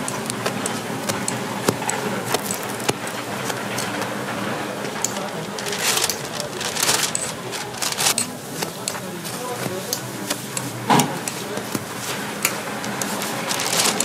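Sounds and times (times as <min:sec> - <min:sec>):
paper sleeve rustling: 0:00.4 - 0:10.5, 0:11.3 - 0:14.0.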